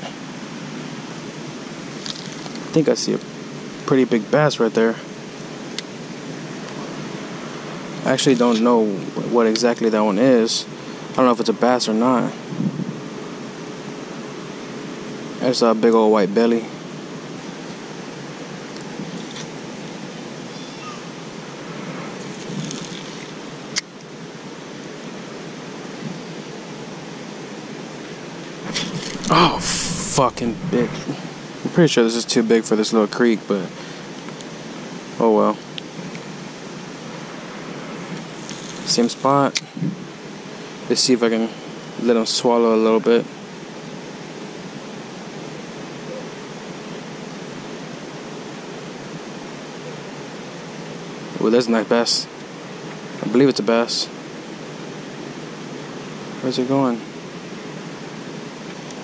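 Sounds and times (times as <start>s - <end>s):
steady background hiss: 0.0s - 59.0s
steady rushing outdoor noise: 0.0s - 59.0s.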